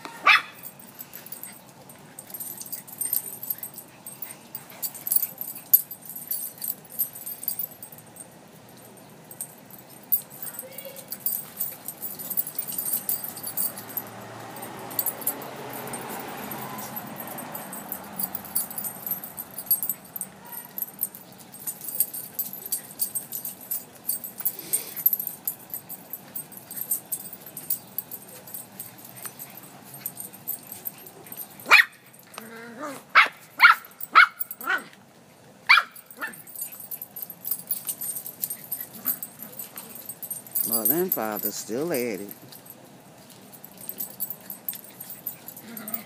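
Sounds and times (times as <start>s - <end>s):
small dogs barking and yipping: 0.0s - 8.3s, 8.9s - 35.0s, 35.6s - 46.0s
light clicking and jingling: 0.6s - 35.0s, 35.7s - 46.0s.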